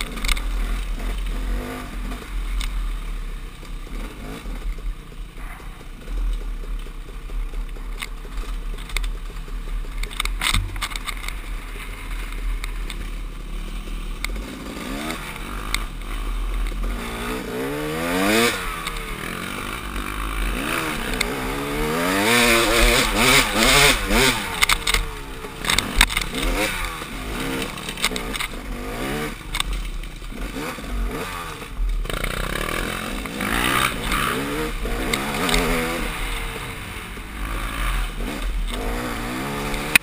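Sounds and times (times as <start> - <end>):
bike rattling over rough ground: 0.0 - 40.0
dirt bike engine revving: 0.0 - 40.0.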